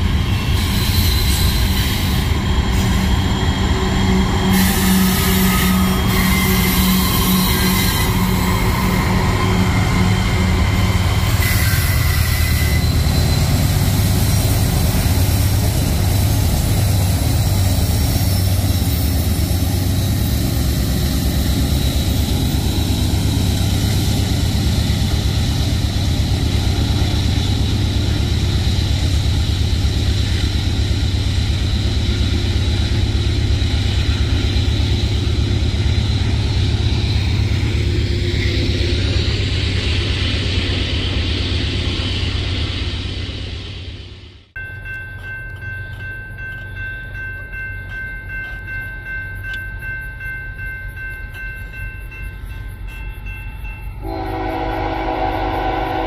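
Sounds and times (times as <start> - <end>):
freight train rumbling by: 0.0 - 56.0.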